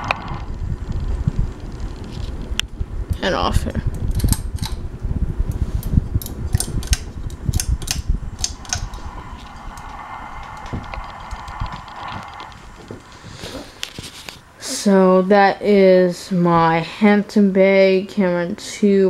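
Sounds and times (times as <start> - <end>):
air buffeting microphone: 0.0 - 17.9
ceiling fan spinning down: 0.0 - 19.0.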